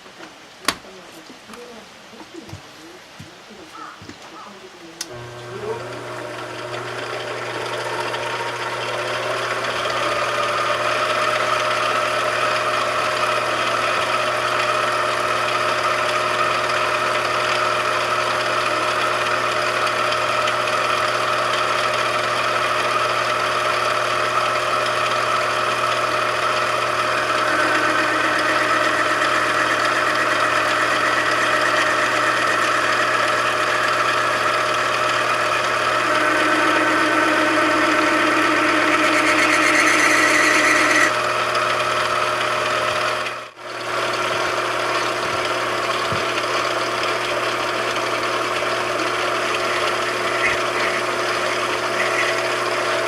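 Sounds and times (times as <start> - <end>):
electric motor humming: 3.8 - 53.0.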